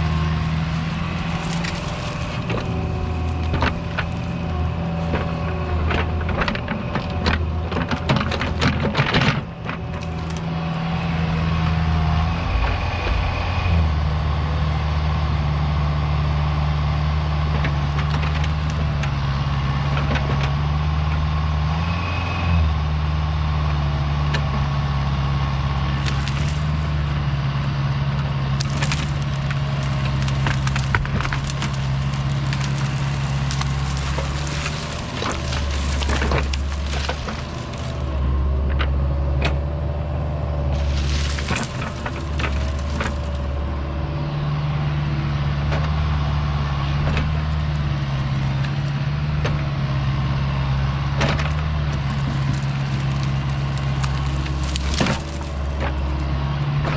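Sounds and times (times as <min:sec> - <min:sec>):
wood cracking and splintering: 0:00.0 - 0:44.3, 0:45.7 - 0:56.9
diesel engine under load: 0:00.0 - 0:56.9.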